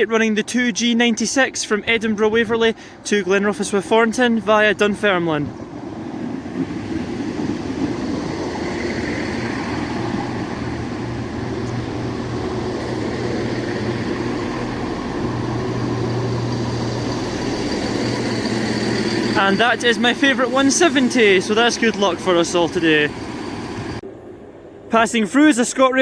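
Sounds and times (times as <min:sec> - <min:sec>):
diesel train engine hum: 0:00.0 - 0:26.0.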